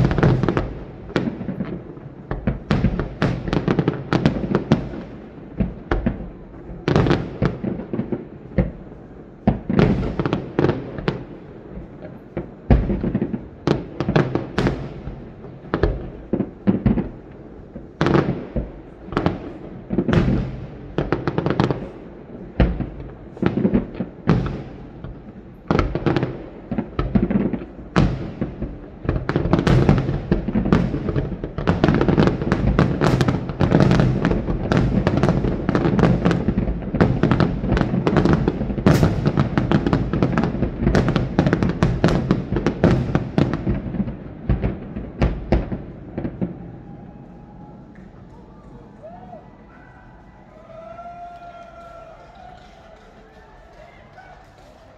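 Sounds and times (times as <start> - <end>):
fireworks booming: 0.0 - 50.2
crackling firework bursts: 0.0 - 54.9.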